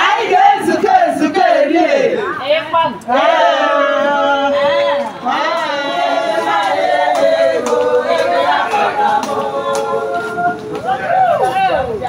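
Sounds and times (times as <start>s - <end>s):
women singing unaccompanied: 0.0s - 11.8s.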